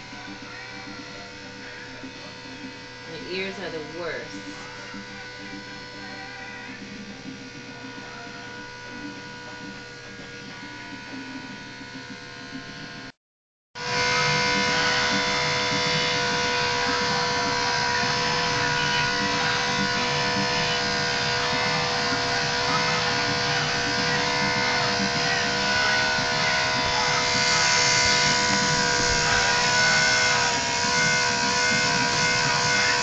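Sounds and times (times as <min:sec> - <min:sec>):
electric clippers buzzing: 0:00.0 - 0:13.2, 0:13.8 - 0:33.0.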